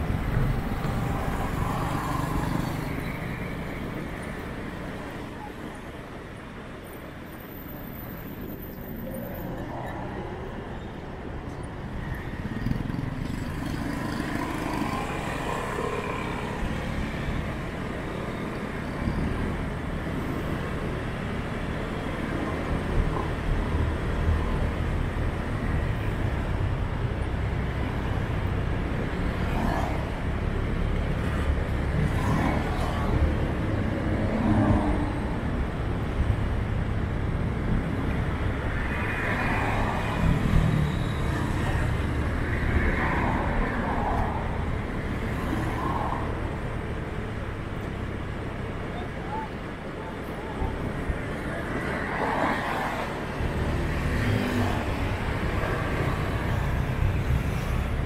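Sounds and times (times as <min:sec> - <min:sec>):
engine and road rumble: 0:00.0 - 0:58.0
vehicles passing: 0:00.0 - 0:58.0.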